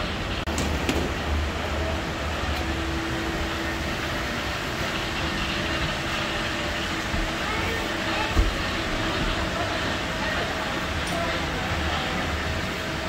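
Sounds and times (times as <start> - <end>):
funicular car rumbling on track: 0.0 - 13.0.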